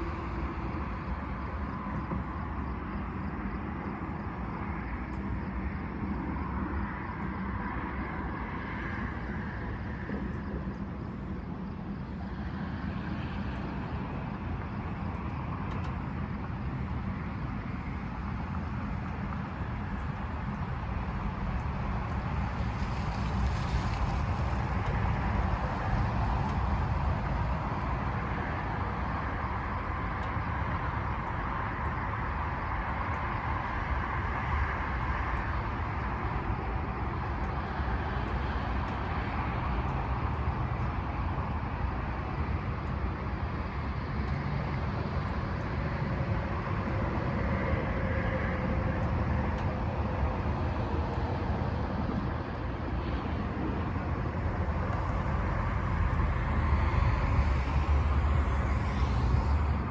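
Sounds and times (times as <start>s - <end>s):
steady low traffic noise: 0.0s - 59.9s.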